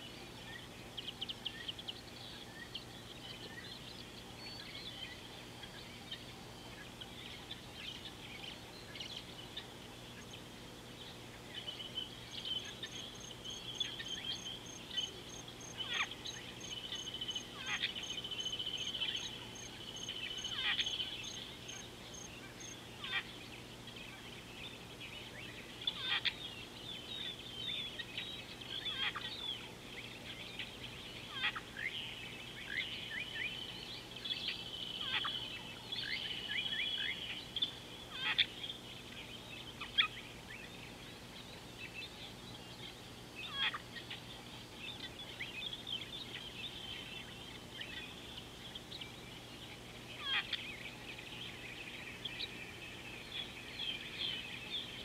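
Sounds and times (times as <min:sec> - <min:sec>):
wild birds calling: 0:00.0 - 0:55.0.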